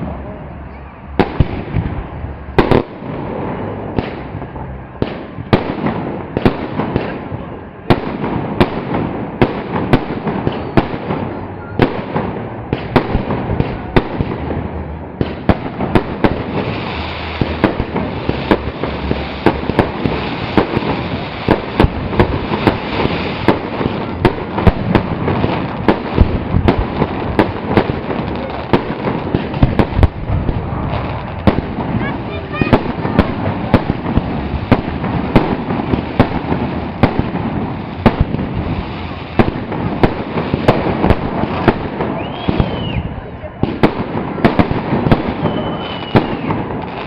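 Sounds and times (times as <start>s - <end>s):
fireworks bangs: 0.0s - 47.0s.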